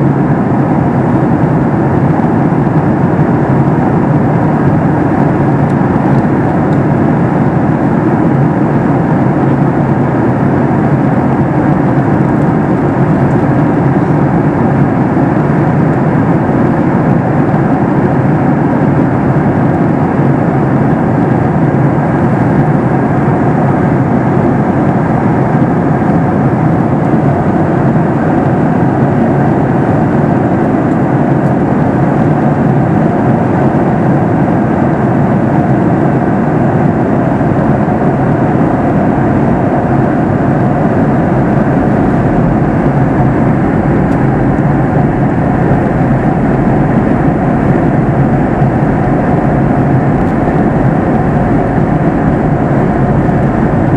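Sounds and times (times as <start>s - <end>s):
airliner cabin noise: 0.0s - 53.9s.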